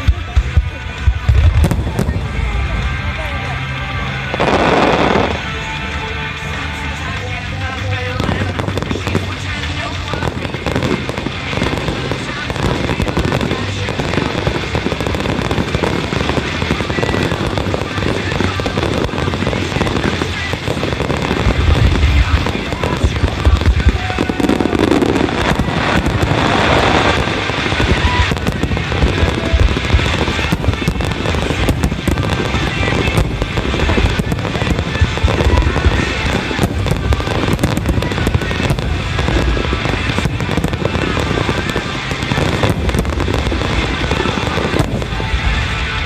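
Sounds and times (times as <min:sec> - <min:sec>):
firework booms and cracks: 0:00.0 - 0:05.6, 0:07.7 - 0:46.0
background music: 0:00.0 - 0:46.0.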